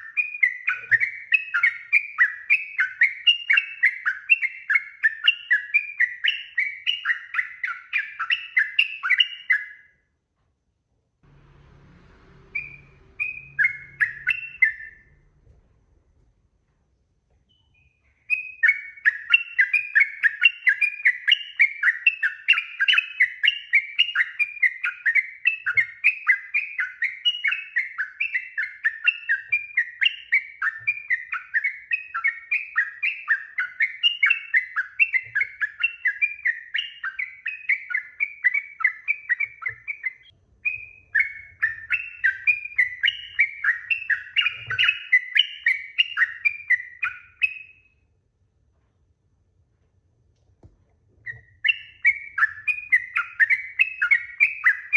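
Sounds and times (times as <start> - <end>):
bird chattering song: 0.0 - 9.9, 12.5 - 15.2, 17.5 - 48.0, 51.2 - 54.9.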